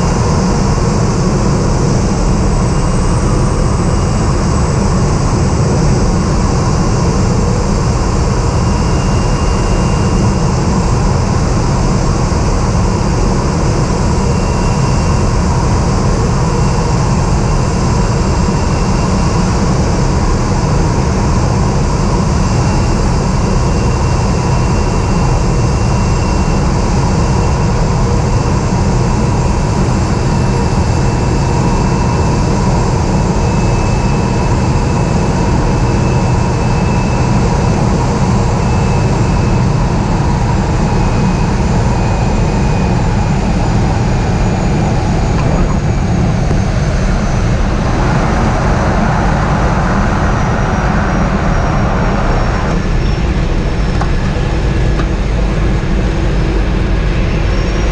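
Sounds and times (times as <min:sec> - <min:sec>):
aircraft engine and propeller: 0:00.0 - 0:57.9
high whining engine tones: 0:00.0 - 0:57.9
wind rumble on microphone: 0:00.0 - 0:57.9.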